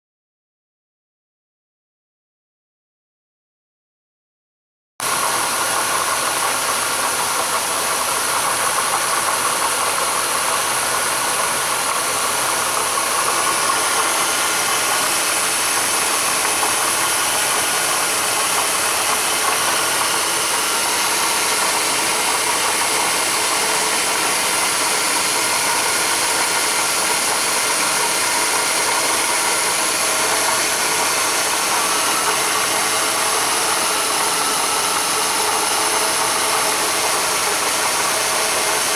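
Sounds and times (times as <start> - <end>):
engine idling: 5.0 - 38.9.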